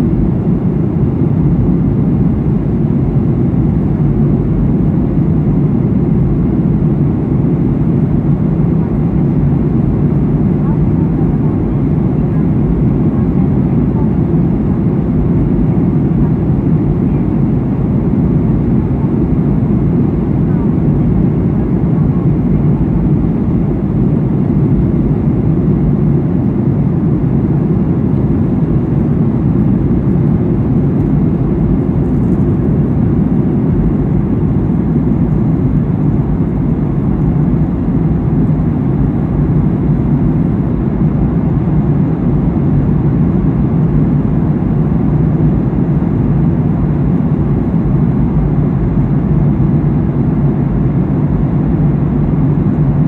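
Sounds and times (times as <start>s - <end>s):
airplane cabin engine rumble: 0.0s - 53.0s.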